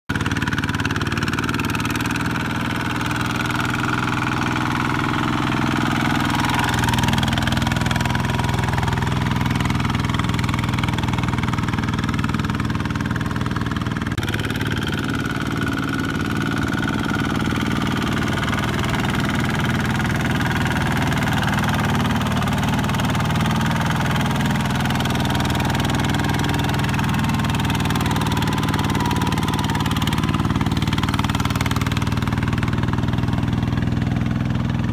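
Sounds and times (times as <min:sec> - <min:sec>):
tractor engine running under load: 0:00.1 - 0:34.9.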